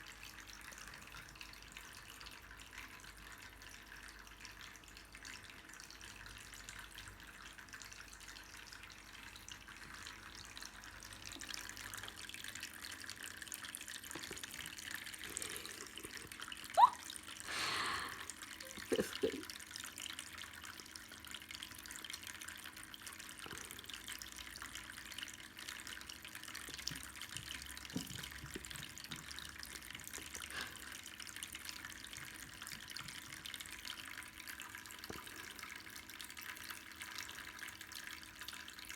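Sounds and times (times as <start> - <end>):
water fountain trickling: 0.0 - 38.9.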